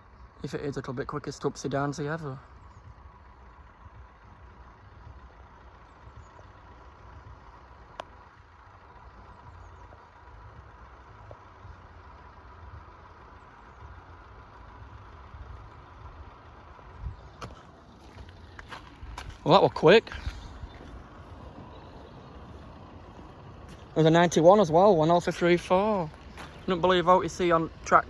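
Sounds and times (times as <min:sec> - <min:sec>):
vehicle engines idling: 0:00.0 - 0:28.0.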